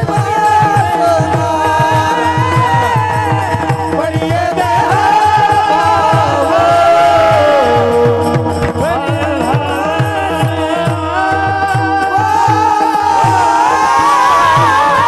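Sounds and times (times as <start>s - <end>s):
fast steady drumming: 0.0s - 15.0s
person singing ornamented notes: 0.1s - 15.0s.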